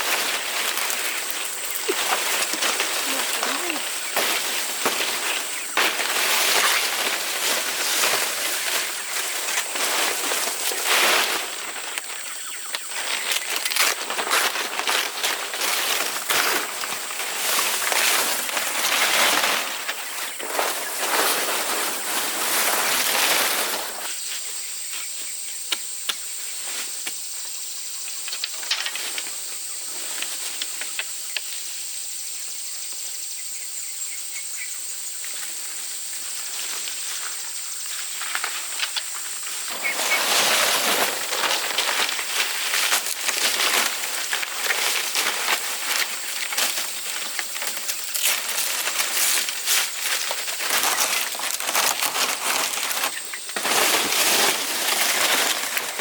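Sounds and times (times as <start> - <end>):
rustling crackling with clicks: 0.0 - 24.1, 28.1 - 31.7, 36.5 - 56.0.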